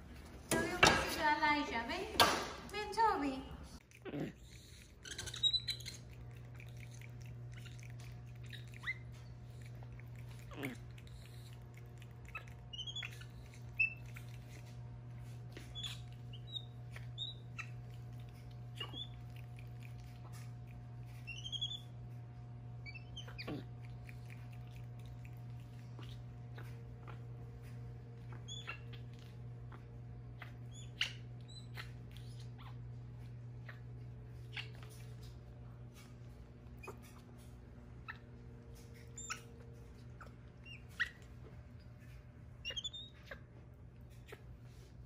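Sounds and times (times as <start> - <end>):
monkeys chirping and squeaking: 4.0 - 44.9.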